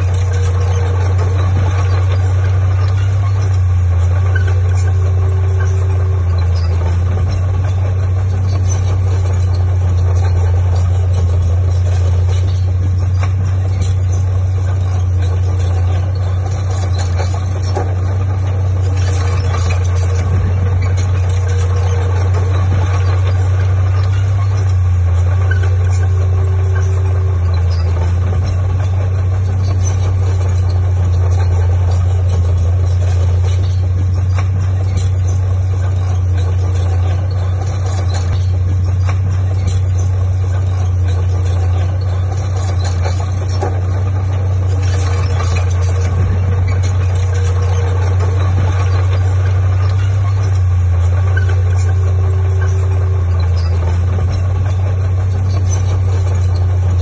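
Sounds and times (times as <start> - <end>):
diesel engine droning: 0.0 - 57.0
mechanical clatter: 0.0 - 57.0.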